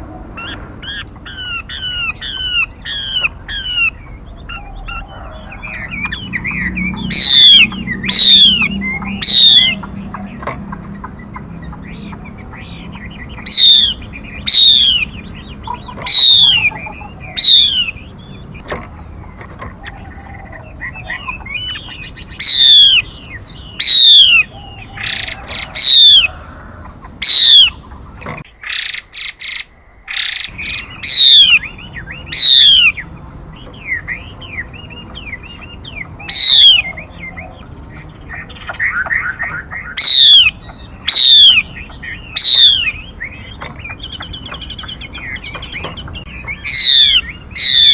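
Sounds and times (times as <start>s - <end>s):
soft calls of other birds: 0.0s - 47.9s
sharp whistled bird calls: 0.4s - 18.6s, 19.9s - 26.5s, 27.2s - 27.8s, 28.4s - 47.9s.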